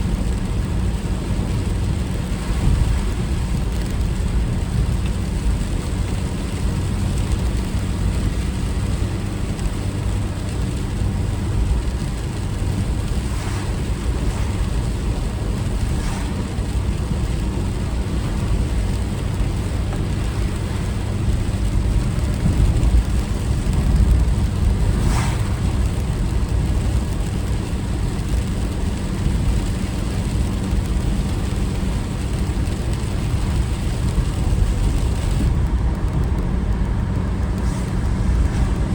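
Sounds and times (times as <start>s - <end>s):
car interior road and engine rumble: 0.0s - 38.9s.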